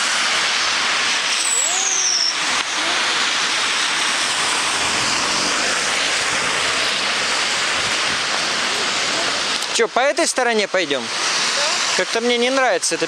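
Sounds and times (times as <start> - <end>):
heavy rain hissing: 0.0 - 13.0
wet traffic: 0.0 - 13.0.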